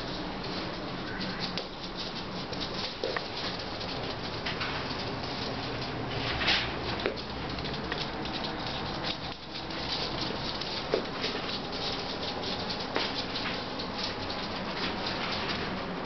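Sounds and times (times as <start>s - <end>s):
claws clicking on laminate floor: 0.0s - 16.0s.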